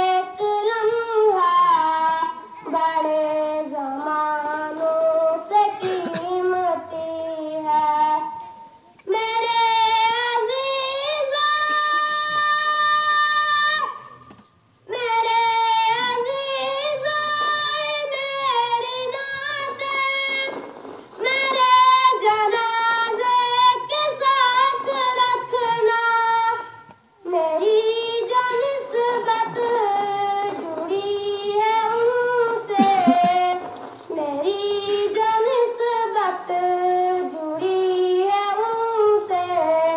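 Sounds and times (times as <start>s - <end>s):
boy singing into microphone: 0.0s - 39.9s.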